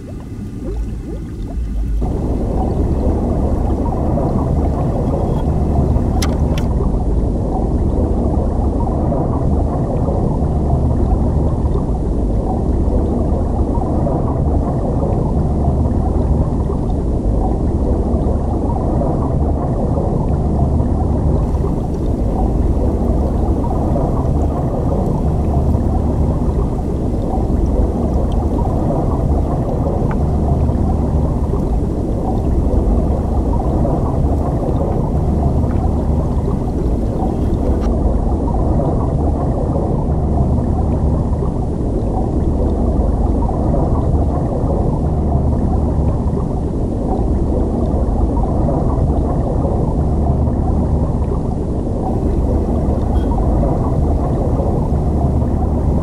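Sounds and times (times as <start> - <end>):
underwater stream rushing: 0.0 - 56.0.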